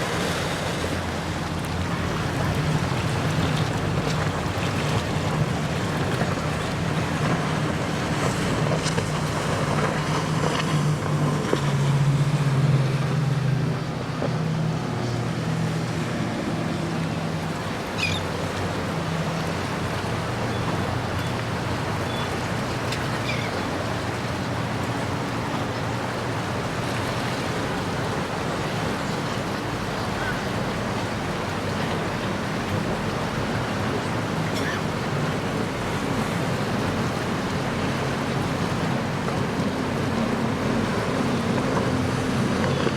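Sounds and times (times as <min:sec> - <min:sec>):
boat engines running low: 0:00.0 - 0:42.9
waves washing: 0:00.0 - 0:42.9
wind: 0:00.0 - 0:42.9.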